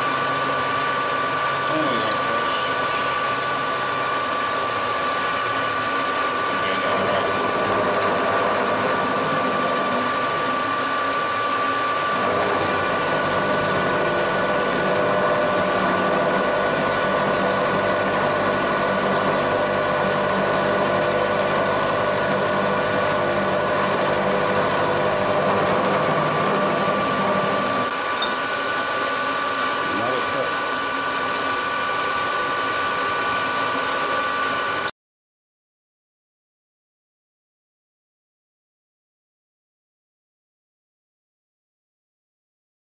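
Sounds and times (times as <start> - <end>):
end mill cutting metal: 0.0 - 34.8
milling machine whine: 0.0 - 34.9.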